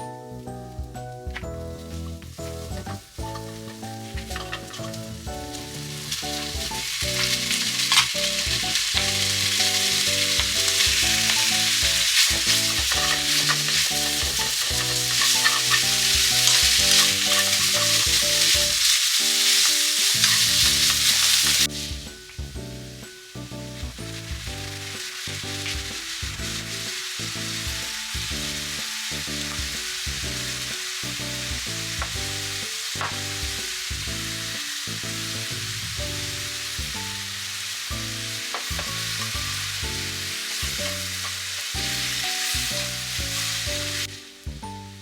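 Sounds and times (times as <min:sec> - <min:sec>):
background music: 0:00.0 - 0:45.0
food sizzling in a pan: 0:00.7 - 0:45.0.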